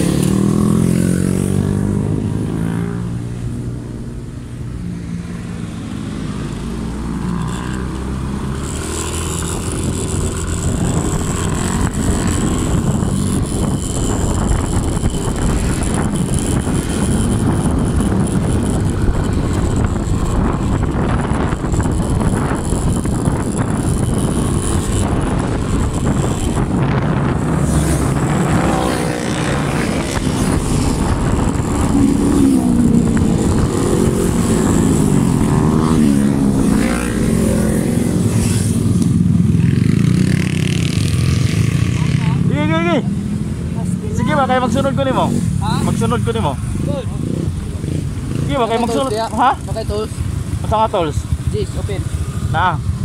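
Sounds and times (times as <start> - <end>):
motorcycle engines running: 0.0 - 53.0
wind rush: 0.0 - 53.0.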